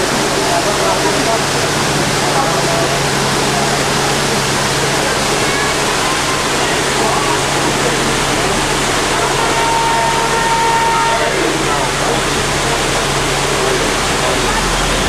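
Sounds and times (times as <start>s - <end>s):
faint chatter of riders: 0.0s - 15.0s
low engine hum: 0.0s - 15.0s
rushing noise of moving tram: 0.0s - 15.0s.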